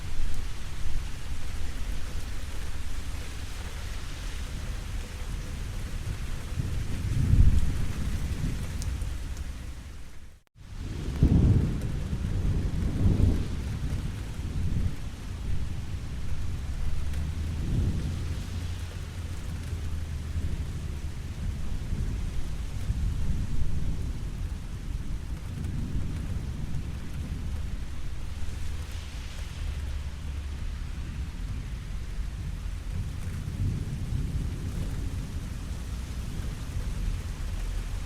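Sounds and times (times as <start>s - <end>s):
steady rain: 0.0s - 38.0s
thunder rolling: 4.5s - 9.9s, 10.6s - 38.0s.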